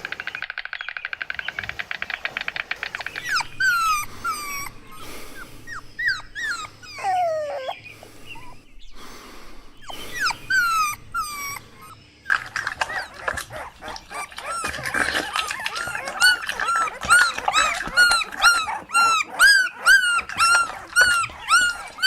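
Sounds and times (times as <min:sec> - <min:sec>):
puppies whimpering and whining: 0:03.0 - 0:08.8, 0:09.8 - 0:22.0.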